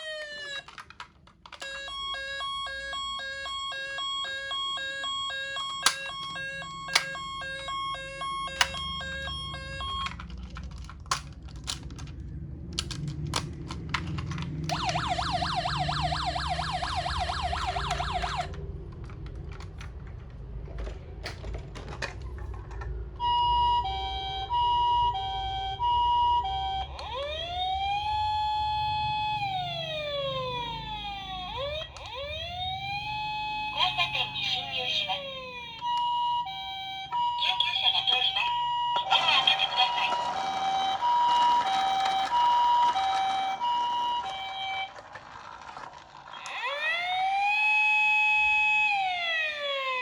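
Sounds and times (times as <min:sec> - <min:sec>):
toy electronic siren: 0:00.0 - 0:10.3, 0:14.6 - 0:18.6, 0:22.8 - 0:50.0.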